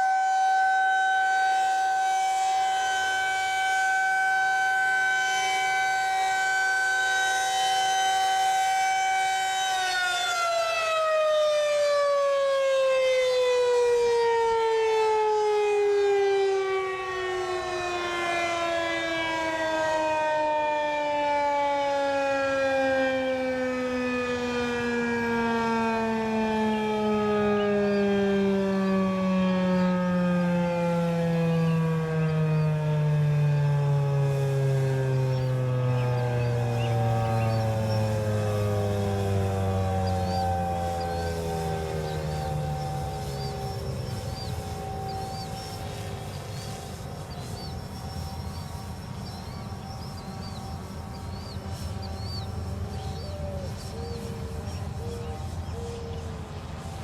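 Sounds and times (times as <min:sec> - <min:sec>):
warning siren winding down: 0:00.0 - 0:57.0.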